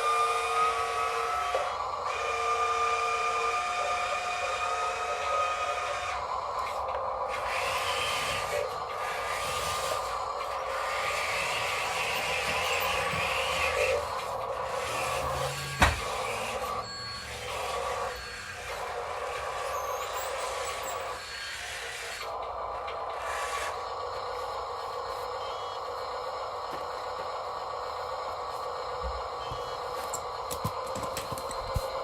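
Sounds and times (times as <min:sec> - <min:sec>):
small electric motors whining: 0:00.0 - 0:32.0.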